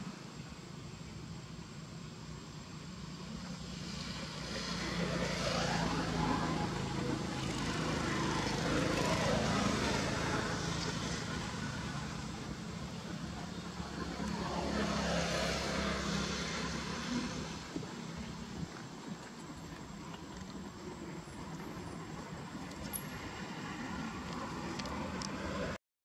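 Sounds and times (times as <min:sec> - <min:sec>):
motor engine passing by: 0:03.2 - 0:25.8.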